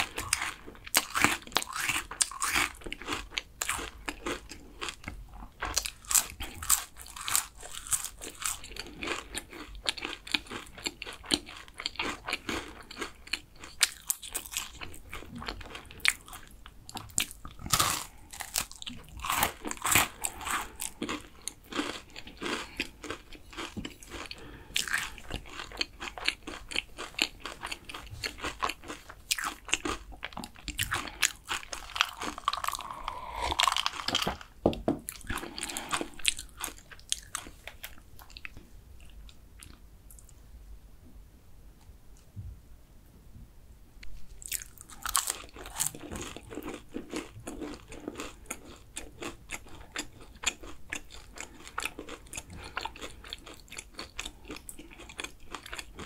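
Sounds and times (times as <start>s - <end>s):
crunching and chewing pastry: 0.0s - 40.3s, 44.3s - 56.0s.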